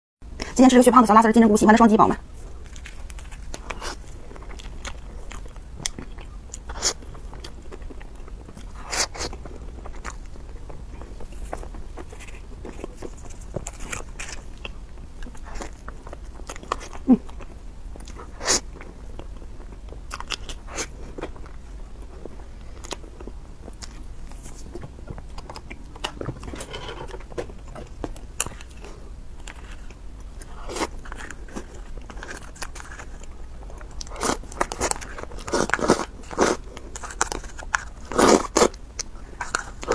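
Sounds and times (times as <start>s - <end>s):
woman chewing crunchy food: 2.4s - 39.9s.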